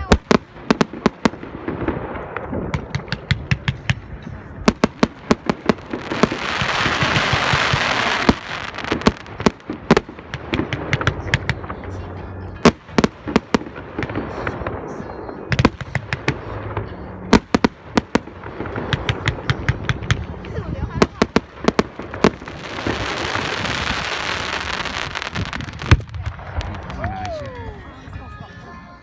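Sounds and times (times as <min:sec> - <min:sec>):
fireworks bangs: 0:00.0 - 0:28.1
fireworks crackling hiss: 0:00.0 - 0:28.1.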